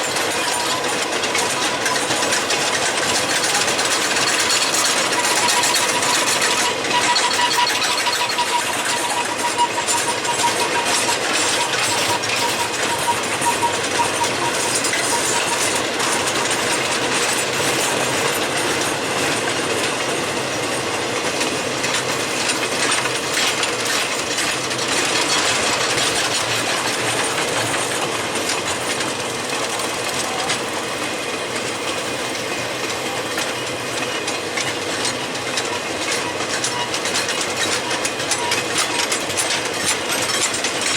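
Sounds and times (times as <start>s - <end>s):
freight train wheels clicking: 0.0s - 40.9s.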